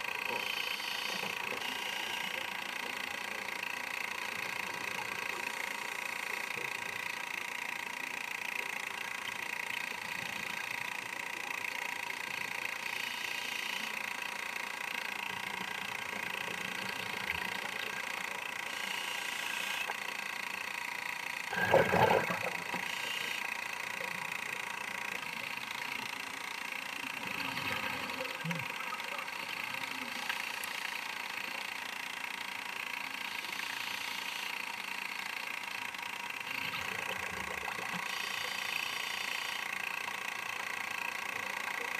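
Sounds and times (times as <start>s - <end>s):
camera mechanical whine: 0.0s - 41.9s.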